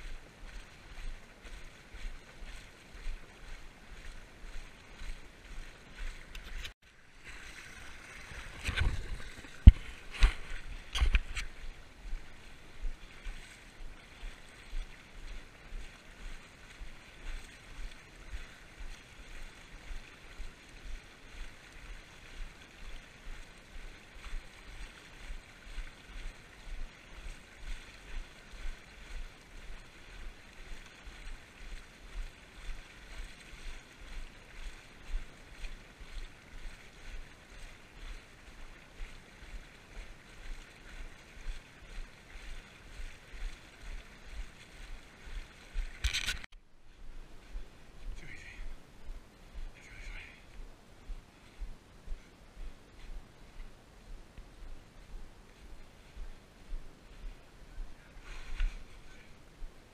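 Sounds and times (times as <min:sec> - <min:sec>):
footfalls on wet path: 0:00.0 - 0:59.9
steady hiss of wind or water: 0:00.0 - 0:59.9.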